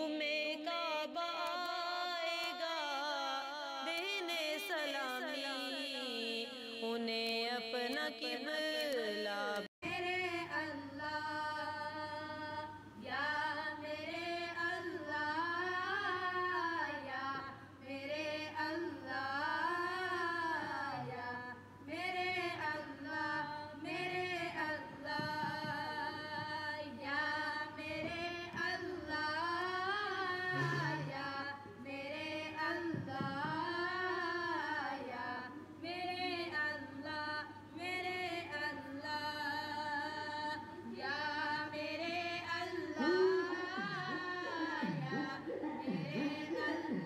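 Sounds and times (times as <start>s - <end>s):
woman singing unaccompanied: 0.0s - 47.0s.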